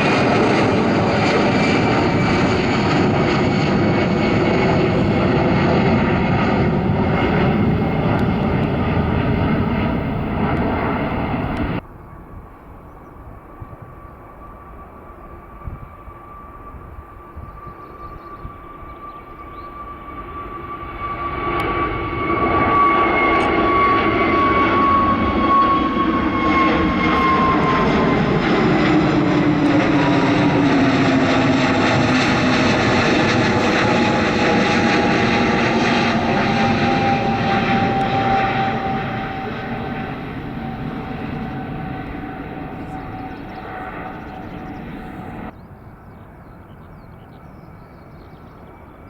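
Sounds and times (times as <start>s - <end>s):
jet airliner passing: 0.0s - 49.0s.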